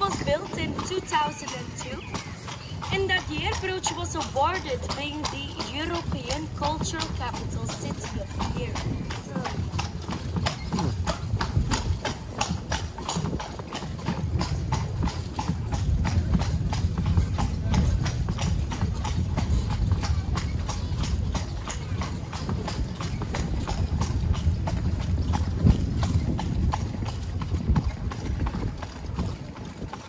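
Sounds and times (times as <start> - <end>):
horse hooves clip-clopping on paving: 0.0 - 30.0.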